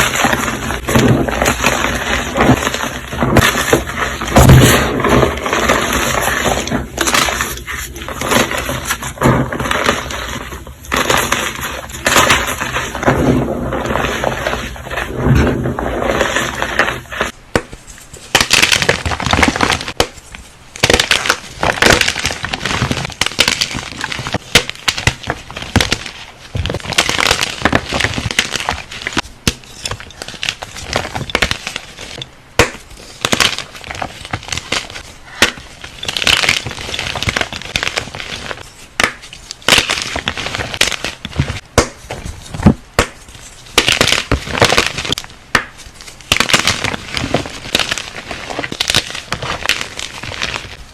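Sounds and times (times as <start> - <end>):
crunchy crushing crackles: 0.0 - 50.9.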